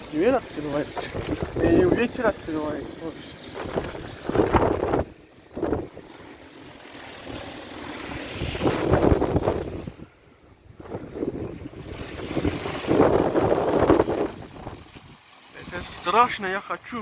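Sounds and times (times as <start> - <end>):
wind buffeting microphone: 0.0 - 16.5.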